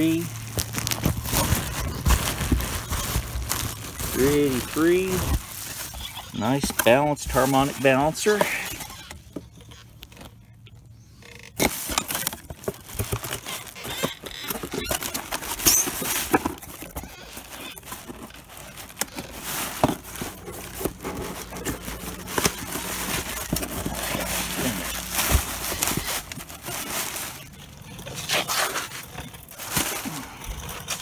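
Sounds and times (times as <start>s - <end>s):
cardboard boxes rustling and scraping: 0.0s - 10.4s, 11.4s - 31.0s.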